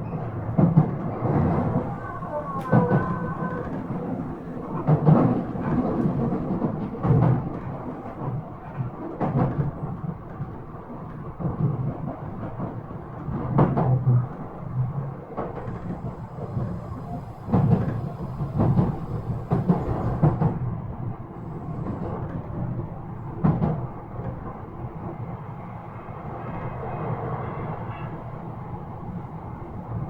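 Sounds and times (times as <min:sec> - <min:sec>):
train rumble from inside: 0:00.0 - 0:30.0.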